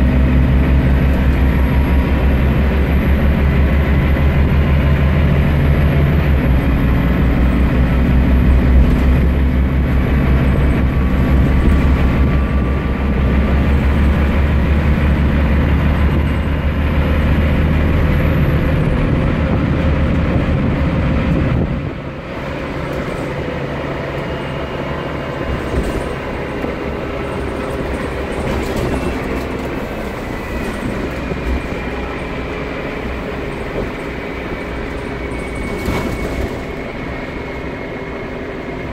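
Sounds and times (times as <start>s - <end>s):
bus diesel engine droning: 0.0s - 38.9s
road noise: 0.0s - 38.9s.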